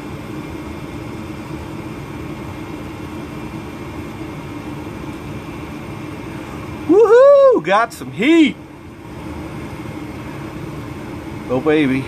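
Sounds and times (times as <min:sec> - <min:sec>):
gas furnace humming: 0:00.0 - 0:12.0.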